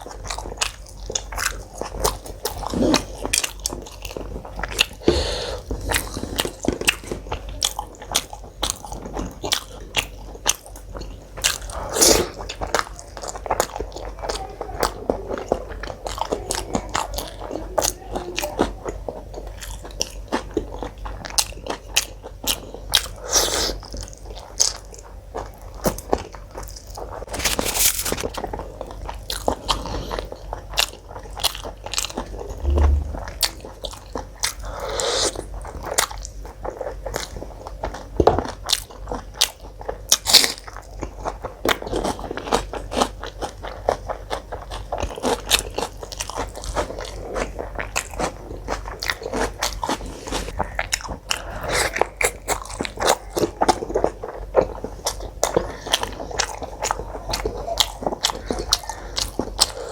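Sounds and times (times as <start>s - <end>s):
person chewing and crunching food: 0.0s - 59.9s.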